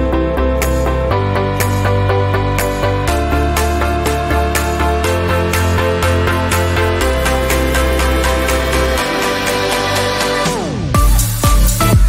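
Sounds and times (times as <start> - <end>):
electronic music with bass: 0.0 - 12.0.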